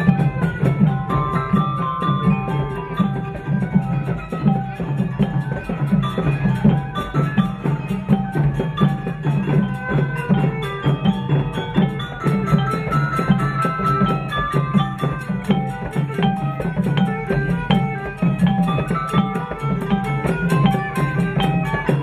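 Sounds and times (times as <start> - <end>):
busy drumming: 0.0 - 22.0.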